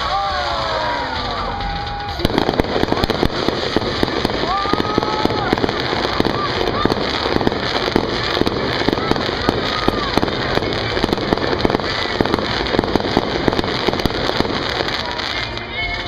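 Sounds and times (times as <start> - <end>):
fireworks popping and crackling: 0.0 - 16.0.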